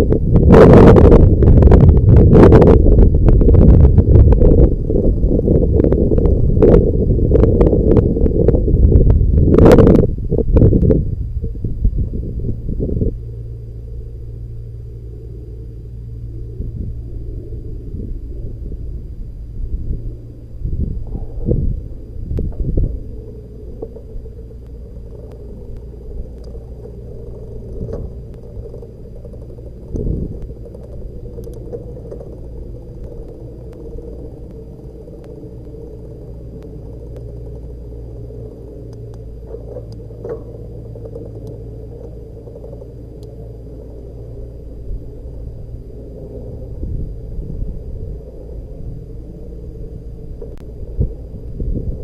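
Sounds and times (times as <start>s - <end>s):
wind and road rumble: 0.0s - 52.0s.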